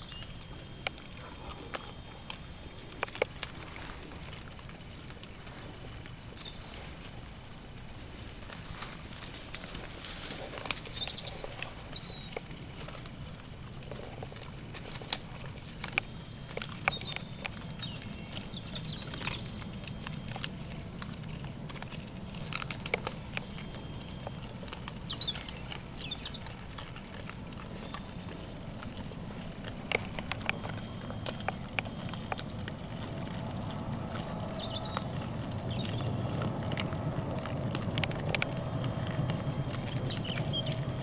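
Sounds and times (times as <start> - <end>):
low steady hum: 0.0 - 41.0
sharp snaps and crunches: 0.0 - 41.0
wild boar chewing: 0.0 - 41.0.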